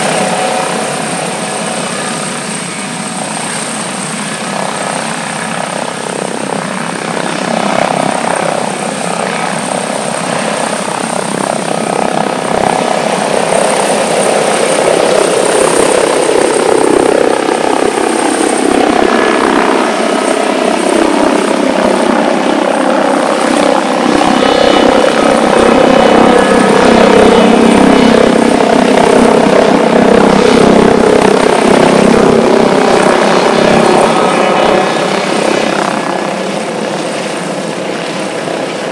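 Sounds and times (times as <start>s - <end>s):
helicopter engine and rotor drone: 0.0s - 38.9s
high turbine whine: 0.0s - 38.9s.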